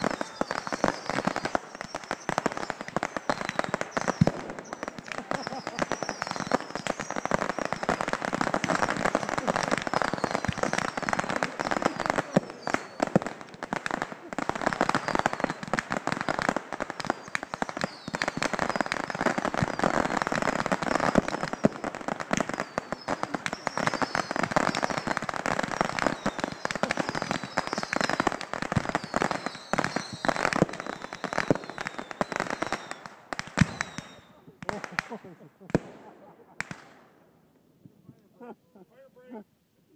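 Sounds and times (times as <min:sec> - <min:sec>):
fireworks crackling and banging: 0:00.0 - 0:38.2.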